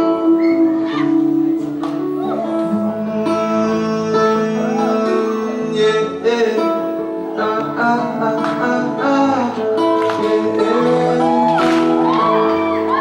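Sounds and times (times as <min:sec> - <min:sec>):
music with held overlapping notes: 0:00.0 - 0:13.0.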